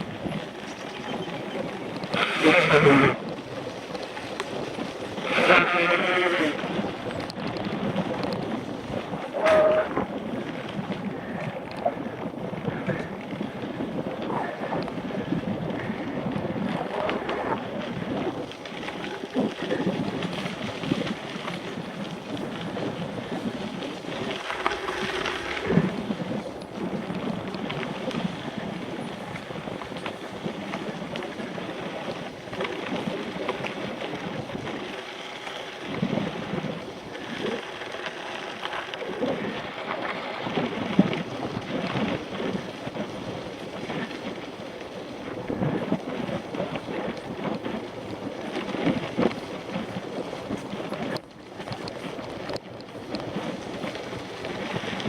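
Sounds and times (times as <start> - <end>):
bike rumbling over rough ground: 0.0 - 55.0
wind buffeting microphone: 0.0 - 55.0.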